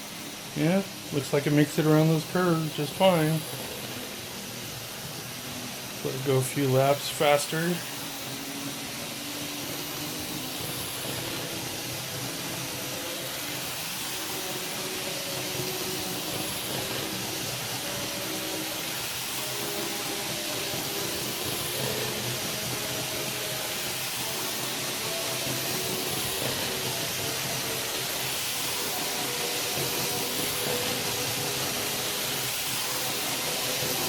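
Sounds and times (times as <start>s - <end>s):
faint wavering motor whine: 0.0s - 34.0s
model train wheels hissing on rails: 0.0s - 34.0s.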